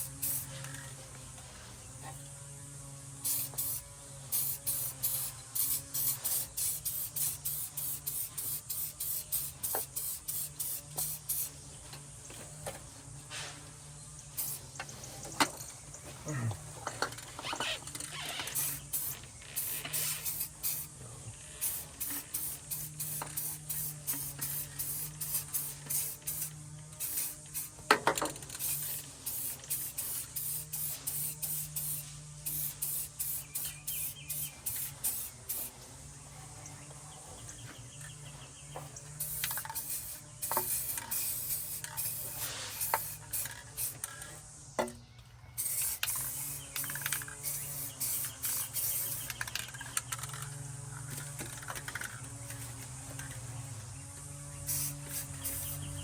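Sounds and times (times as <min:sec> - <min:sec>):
spray can hissing bursts: 0:00.0 - 0:00.8, 0:03.2 - 0:11.7, 0:13.3 - 0:15.1, 0:17.6 - 0:36.1, 0:39.0 - 0:44.5, 0:45.6 - 0:53.8, 0:54.4 - 0:56.0.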